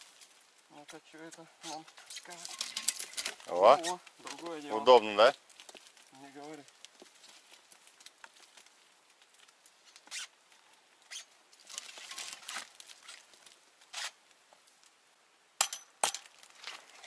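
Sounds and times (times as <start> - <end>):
metal scraping against bark: 0.0 - 14.2.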